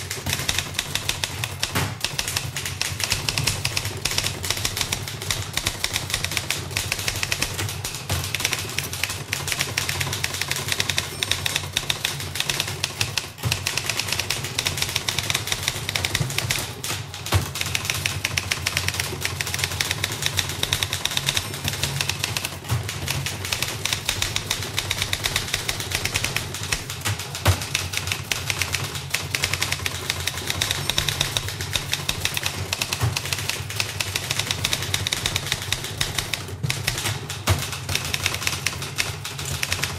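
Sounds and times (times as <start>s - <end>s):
typewriters typing fast: 0.0s - 39.9s.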